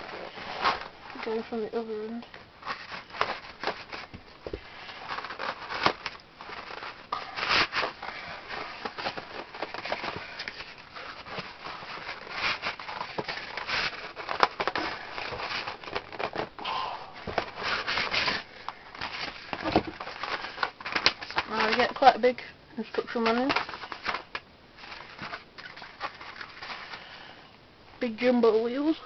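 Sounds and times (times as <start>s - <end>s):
cardboard packaging rustling: 0.0s - 27.4s.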